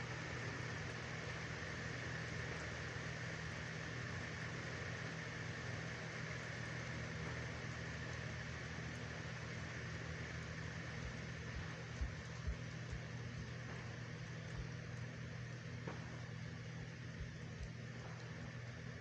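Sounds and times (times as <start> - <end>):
low steady hum: 0.0 - 19.0
steady rain hiss: 0.0 - 19.0.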